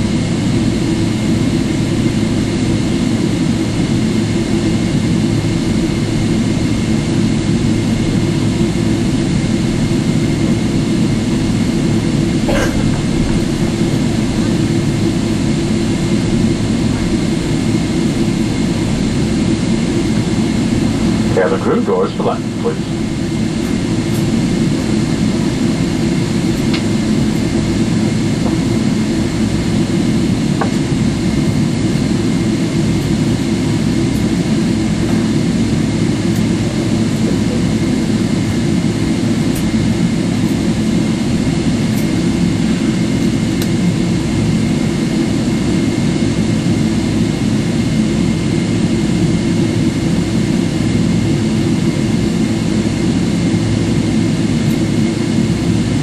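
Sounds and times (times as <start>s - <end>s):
jet engines idling in cabin: 0.0s - 56.0s.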